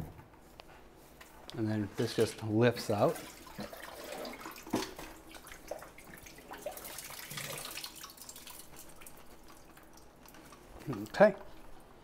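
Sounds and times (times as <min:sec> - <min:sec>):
water dripping and trickling: 0:02.0 - 0:11.8.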